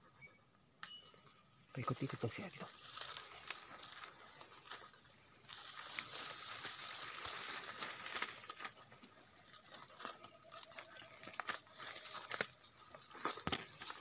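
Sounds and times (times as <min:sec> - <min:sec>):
footsteps crunching through dry leaves: 0:02.6 - 0:14.0.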